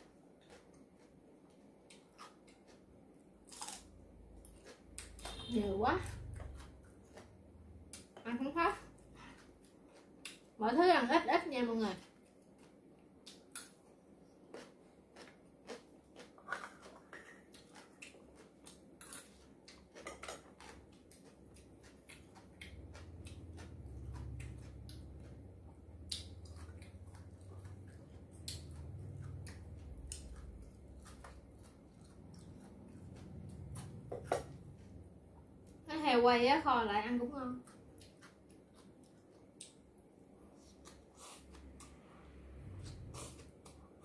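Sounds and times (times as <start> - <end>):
person chewing food: 0.0 - 8.2, 8.8 - 10.6, 12.0 - 35.8, 37.6 - 44.0.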